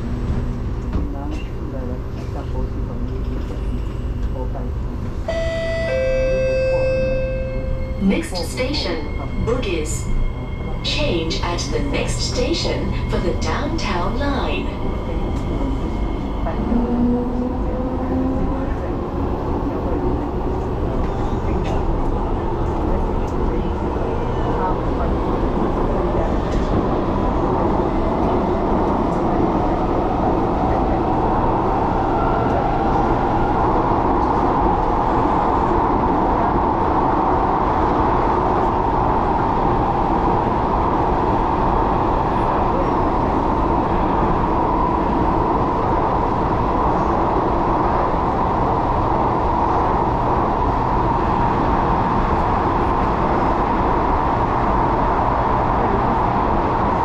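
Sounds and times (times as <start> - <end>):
train whine: 0.0 - 57.0
wheels rumbling on rail: 0.0 - 57.0.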